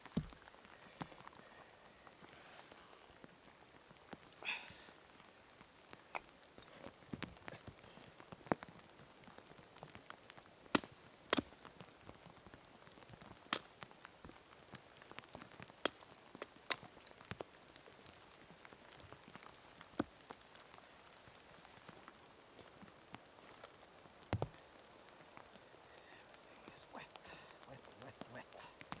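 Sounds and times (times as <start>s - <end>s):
rain hiss: 0.0s - 29.0s
heavy raindrops ticking: 3.2s - 23.3s, 24.0s - 29.0s.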